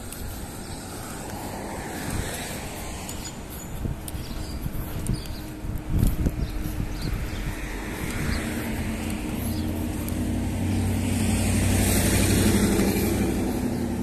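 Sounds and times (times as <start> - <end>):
car approaching: 0.0 - 14.0.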